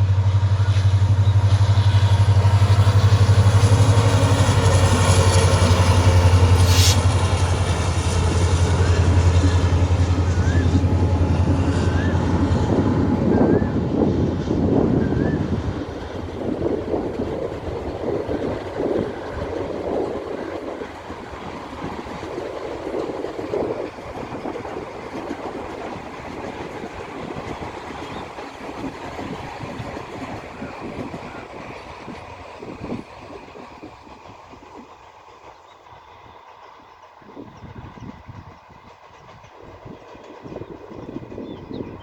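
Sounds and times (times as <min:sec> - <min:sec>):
train wheels clattering on rails: 0:00.0 - 0:42.0.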